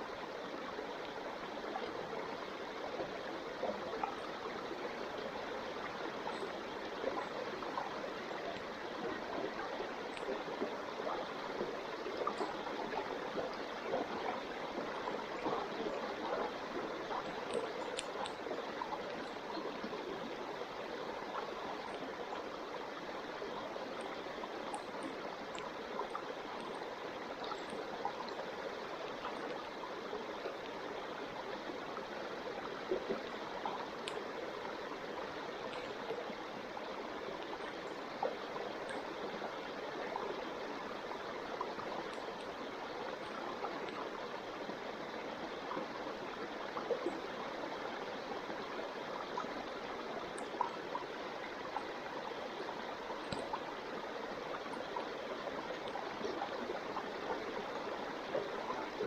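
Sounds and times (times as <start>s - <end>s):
water rushing: 0.0s - 59.0s
faint high ticks: 5.8s - 31.8s, 32.5s - 34.4s, 35.1s - 47.3s, 48.2s - 52.0s, 53.0s - 57.6s.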